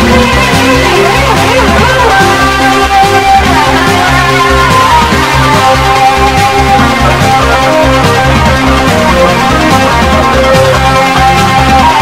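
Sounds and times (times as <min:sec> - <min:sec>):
upbeat music with plucked guitar: 0:00.0 - 0:12.0.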